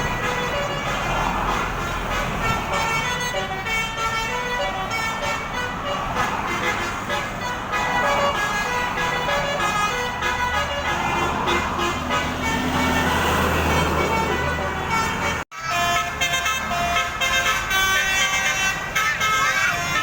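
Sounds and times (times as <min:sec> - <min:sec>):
bus air horn playing a tune: 0:00.0 - 0:20.0.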